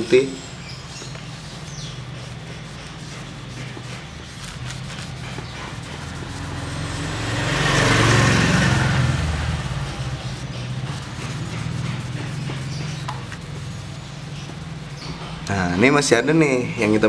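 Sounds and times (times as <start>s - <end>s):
vehicle engine passing: 1.2s - 15.6s.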